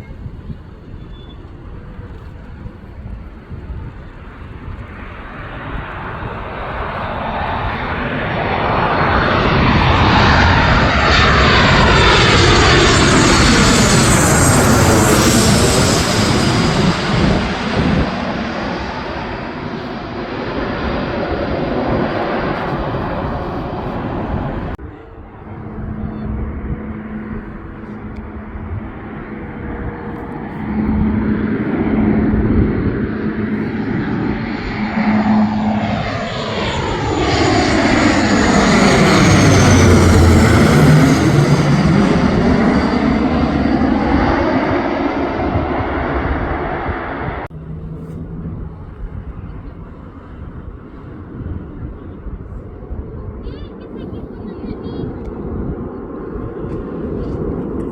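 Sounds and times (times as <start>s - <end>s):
airliner engines passing: 0.0s - 57.9s.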